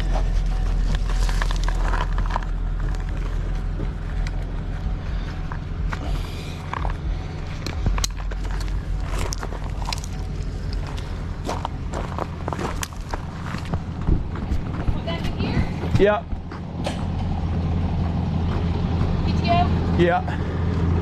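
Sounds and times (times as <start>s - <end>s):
footsteps on gravel: 0.0s - 19.2s
vehicle engine idling: 0.0s - 21.0s.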